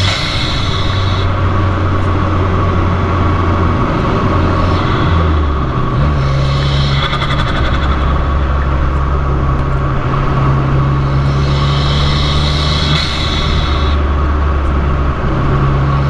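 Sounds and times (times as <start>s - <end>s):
car engine at steady speed: 0.0s - 16.0s.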